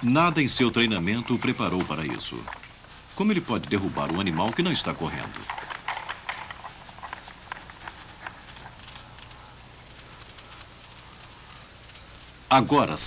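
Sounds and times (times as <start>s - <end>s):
faint low hum: 0.0s - 13.0s
gazelles' horns clacking: 0.0s - 13.0s.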